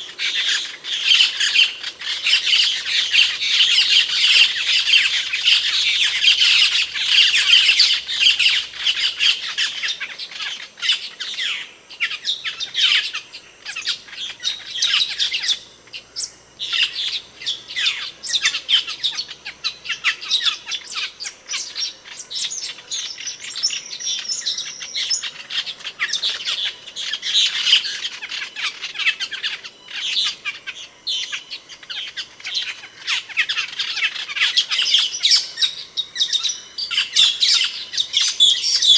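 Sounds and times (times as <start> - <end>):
starling chirping and squawking: 0.0 - 38.9.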